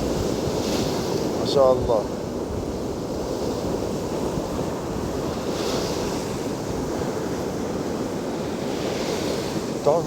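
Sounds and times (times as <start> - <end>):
waves breaking ashore: 0.0 - 10.0
wind buffeting microphone: 0.0 - 10.0.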